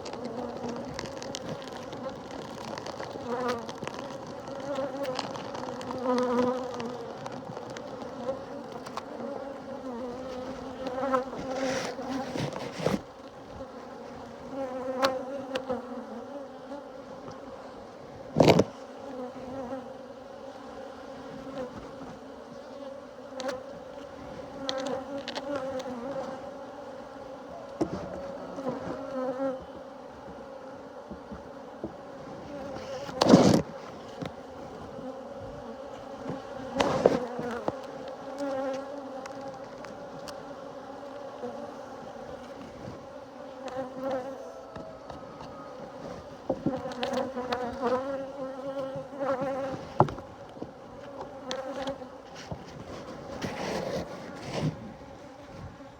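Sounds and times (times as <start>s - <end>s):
bees buzzing: 0.0s - 52.6s.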